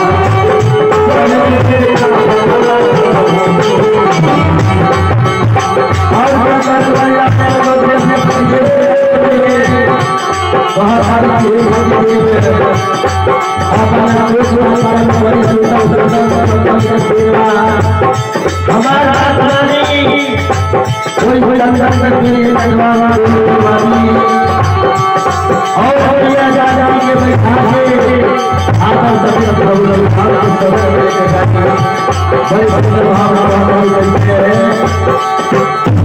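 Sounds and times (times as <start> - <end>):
hand drum beat: 0.0 - 36.0
harmonium playing held notes: 0.0 - 36.0
man singing: 0.0 - 36.0.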